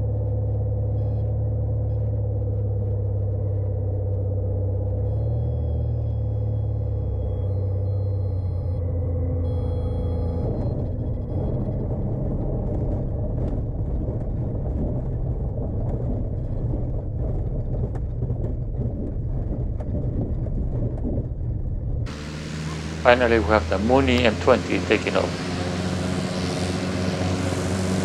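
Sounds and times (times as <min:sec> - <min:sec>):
airplane engine and propeller drone: 0:00.0 - 0:20.0, 0:22.0 - 0:28.0
wheels rumbling: 0:00.0 - 0:28.0.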